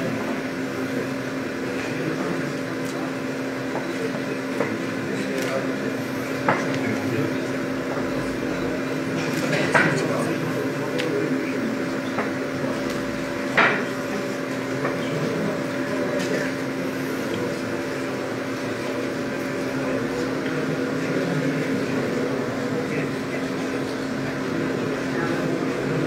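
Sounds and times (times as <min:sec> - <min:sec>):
woodworking machinery hum: 0:00.0 - 0:26.0.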